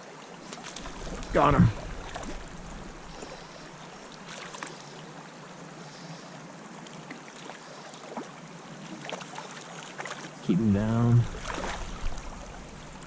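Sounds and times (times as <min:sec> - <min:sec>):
faint ticks and splashes: 0:00.0 - 0:10.5, 0:11.2 - 0:13.0
creek water rushing: 0:00.0 - 0:13.0.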